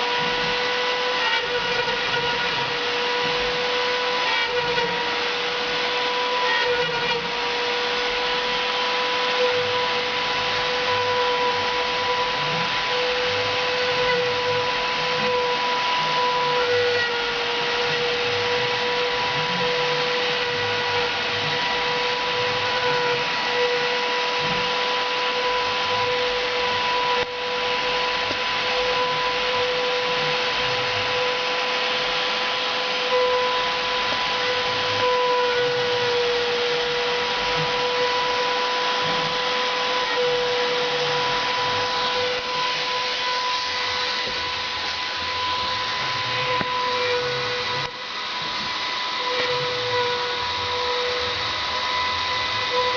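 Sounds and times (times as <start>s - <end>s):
router spindle high whine: 0.0s - 52.9s.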